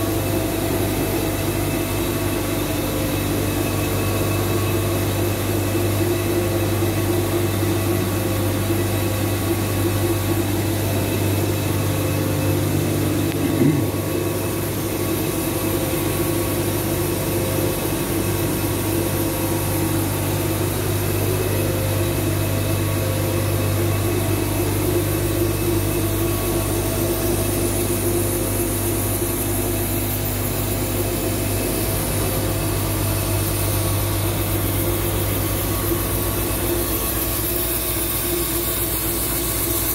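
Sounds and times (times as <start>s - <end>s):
lathe machine hum: 0.0s - 39.9s.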